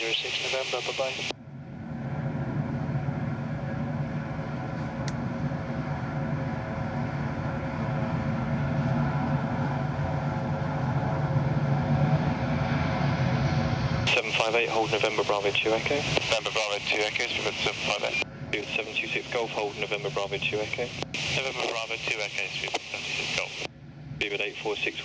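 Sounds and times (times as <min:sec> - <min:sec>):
jet airliner engines running: 0:00.0 - 0:25.0.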